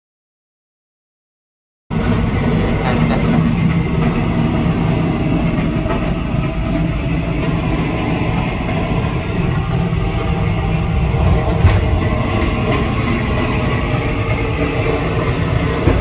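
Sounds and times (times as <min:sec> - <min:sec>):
passenger train rumble and rattle: 0:01.9 - 0:16.0.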